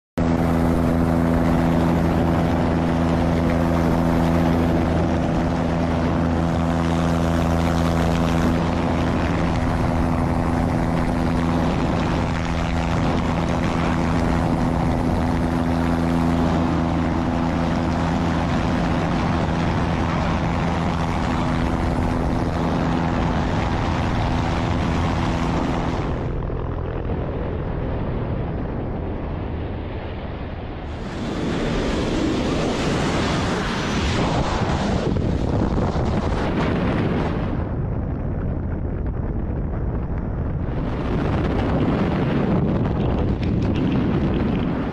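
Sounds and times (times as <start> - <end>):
propeller plane engine drone: 0.2 - 44.9
wind rush: 0.2 - 44.9.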